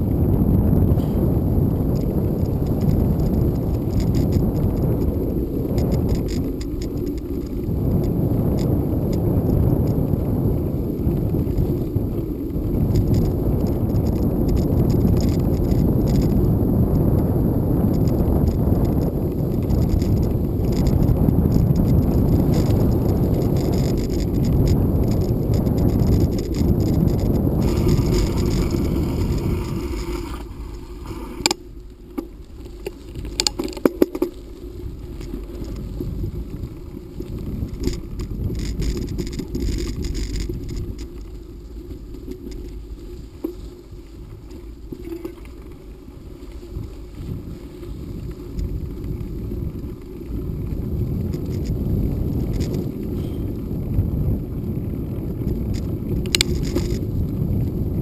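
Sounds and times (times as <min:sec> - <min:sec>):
bicycle rattling over bumps: 0:00.0 - 0:58.0
bicycle tyres rumbling on dirt road: 0:00.0 - 0:58.0.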